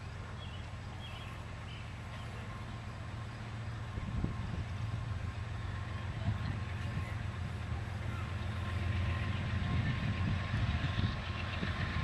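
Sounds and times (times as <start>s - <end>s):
diesel freight train rumbling: 0.0s - 12.0s.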